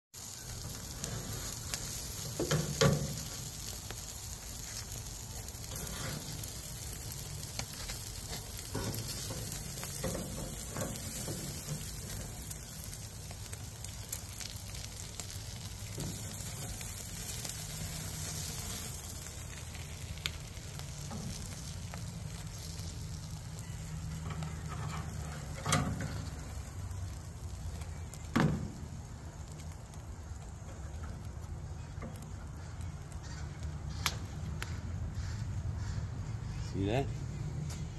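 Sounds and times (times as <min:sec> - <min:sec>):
fish sizzling on a grill: 0:00.2 - 0:37.9.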